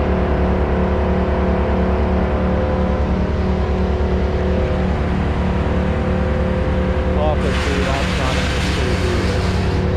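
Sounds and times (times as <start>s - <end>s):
engine running steadily: 0.0s - 9.9s.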